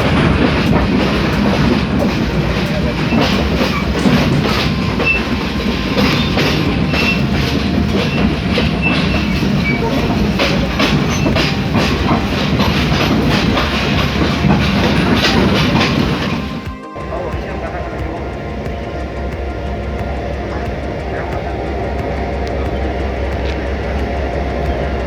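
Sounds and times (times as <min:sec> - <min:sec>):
train rumbling on rails: 0:00.0 - 0:25.0
wheels clattering over rail joints: 0:00.0 - 0:25.0.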